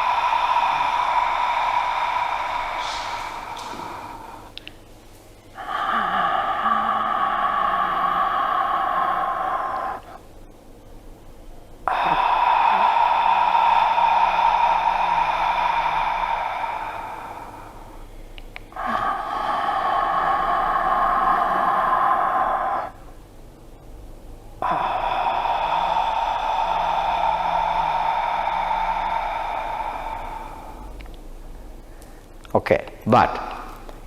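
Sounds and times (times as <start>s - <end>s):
slow rushing breathing: 0.0s - 32.4s, 33.3s - 34.0s.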